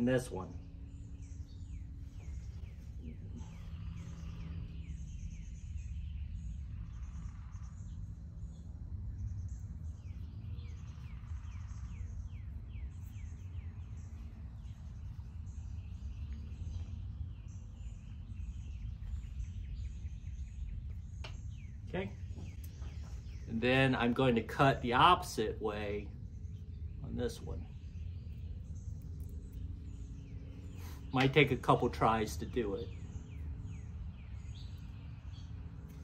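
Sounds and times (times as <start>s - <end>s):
birds chirping: 0.0s - 36.0s
steady low rumble: 0.0s - 36.0s.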